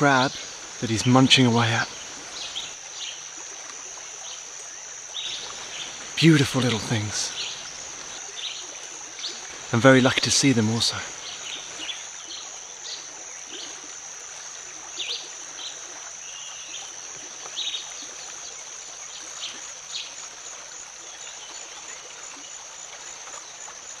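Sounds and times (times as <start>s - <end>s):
high insect drone: 0.0s - 24.0s
stream running over stones: 0.0s - 24.0s.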